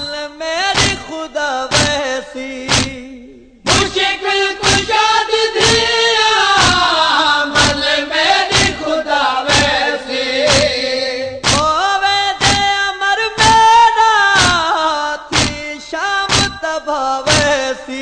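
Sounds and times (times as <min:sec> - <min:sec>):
men chanting a lament: 0:00.5 - 0:18.0
chest-beating thuds: 0:00.7 - 0:12.8, 0:13.4 - 0:13.8, 0:14.4 - 0:16.7, 0:17.3 - 0:17.6.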